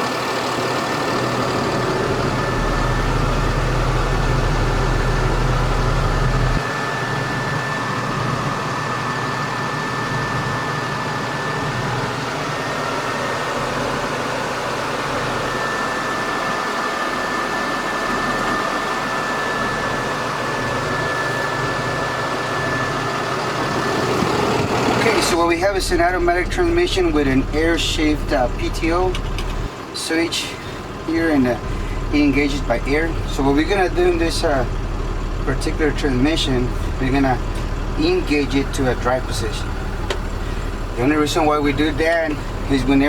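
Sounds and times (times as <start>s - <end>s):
diesel truck engine idling: 0.0s - 43.0s
thin steady whine: 0.0s - 43.0s.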